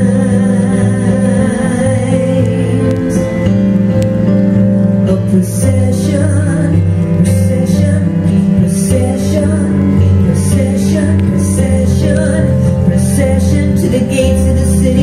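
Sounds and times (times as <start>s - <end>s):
woman singing: 0.0s - 3.5s, 5.1s - 15.0s
keyboard sustained low notes: 0.0s - 15.0s.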